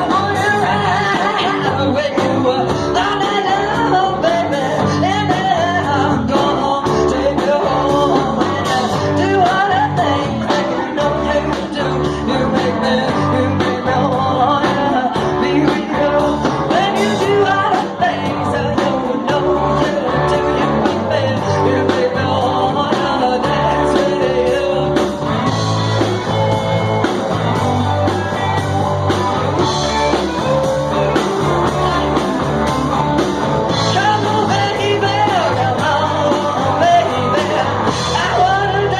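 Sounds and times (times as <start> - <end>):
garage rock band playing: 0.0 - 38.9.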